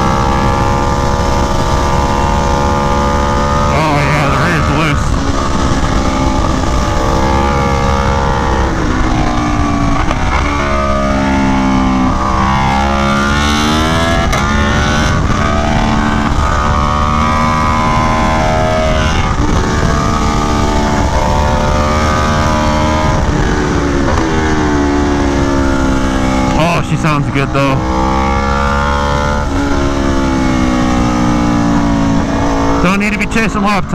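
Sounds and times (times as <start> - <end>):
wind rushing: 0.0 - 32.9
motorcycle engine revving: 0.0 - 33.9.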